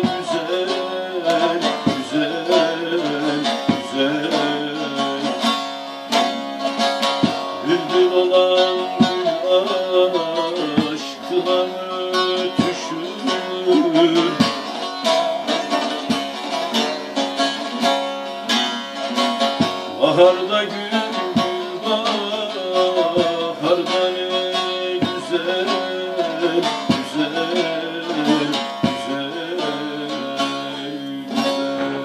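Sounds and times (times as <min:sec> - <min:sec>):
long-necked lute folk melody: 0:00.0 - 0:32.0.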